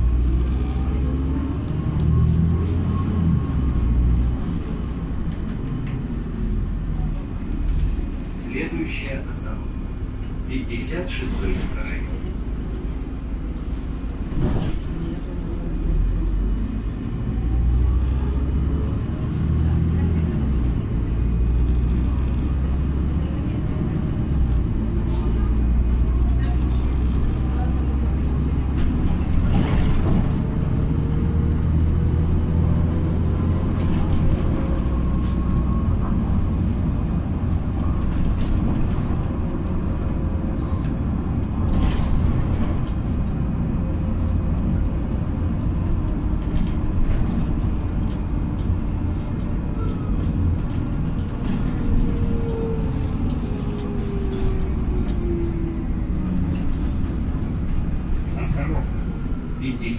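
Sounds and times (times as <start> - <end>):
bus engine and road rumble: 0.0 - 59.9
faint drivetrain whine: 11.2 - 59.9.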